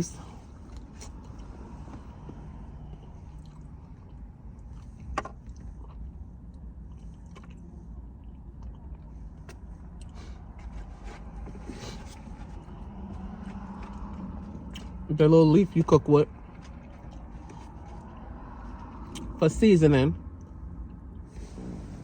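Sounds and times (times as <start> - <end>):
person chewing: 0.3 - 15.0, 16.3 - 19.3.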